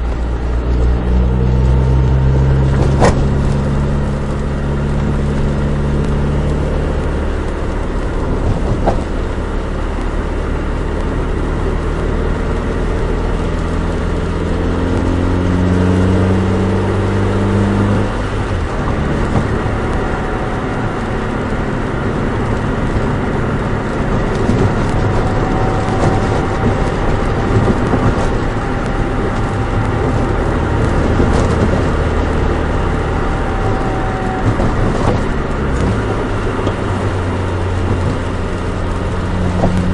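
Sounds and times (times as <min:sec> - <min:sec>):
car engine accelerating: 0:00.0 - 0:39.9
road noise: 0:00.0 - 0:39.9.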